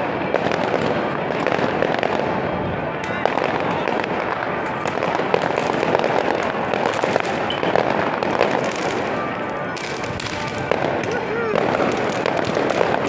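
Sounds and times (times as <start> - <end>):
fireworks crackling and popping: 0.0 - 13.0
loud fireworks bangs: 0.0 - 13.0.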